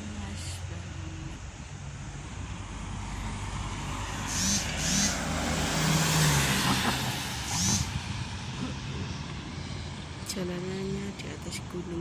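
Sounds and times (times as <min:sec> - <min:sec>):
vehicle driving past: 0:00.0 - 0:10.6.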